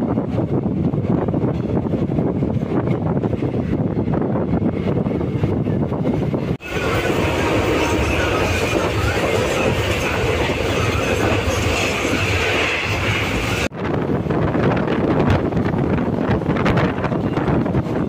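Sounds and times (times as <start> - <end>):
train wheels on rails: 0.0 - 18.0
wind buffeting microphone: 0.0 - 18.0.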